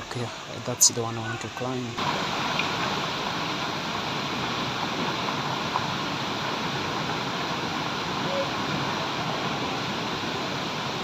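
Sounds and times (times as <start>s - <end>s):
waterfall pouring over rocks: 0.0s - 11.0s.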